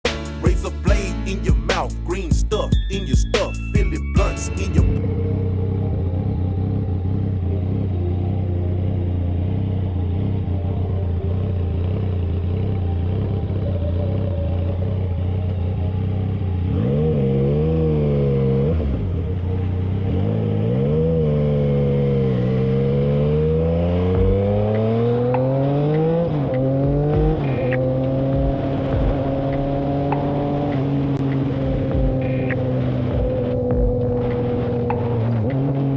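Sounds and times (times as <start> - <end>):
motorcycle engine: 0.0 - 35.9.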